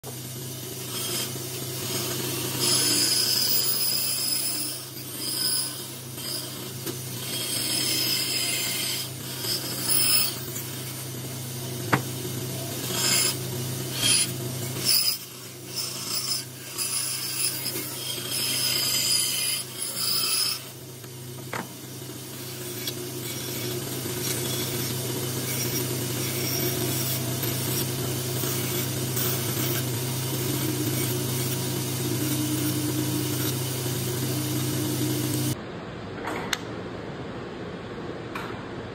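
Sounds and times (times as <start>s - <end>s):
saw blade cutting wood: 0.0s - 20.8s, 22.3s - 35.6s
bandsaw motor hum: 0.0s - 35.6s.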